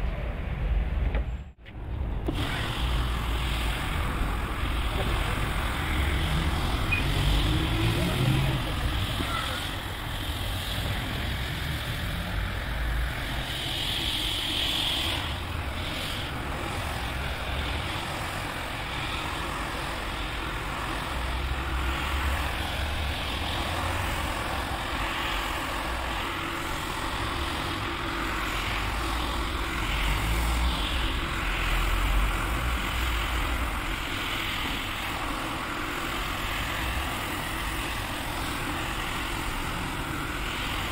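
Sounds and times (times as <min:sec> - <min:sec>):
floor scrubber motor humming: 0:02.3 - 0:40.9.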